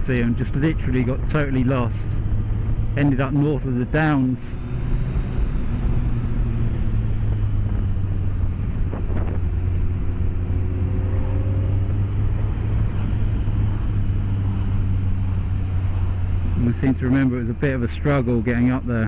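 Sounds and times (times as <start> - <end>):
road and wind noise: 0.0 - 19.0
motorcycle engine running: 0.8 - 18.8.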